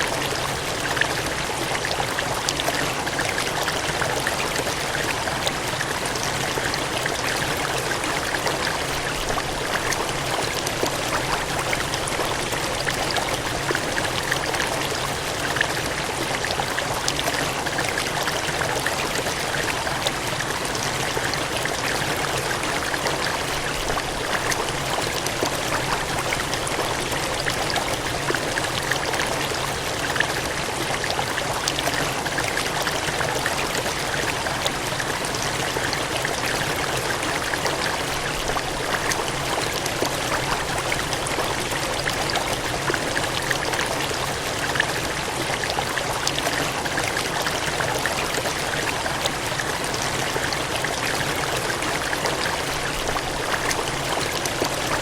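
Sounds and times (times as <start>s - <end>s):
water gushing: 0.0s - 55.0s.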